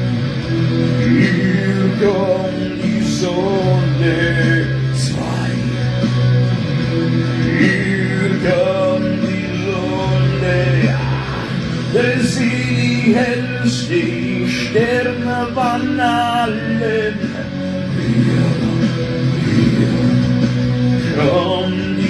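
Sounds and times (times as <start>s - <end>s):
instrumental backing music: 0.0s - 22.0s
person singing: 0.9s - 6.1s, 7.4s - 22.0s.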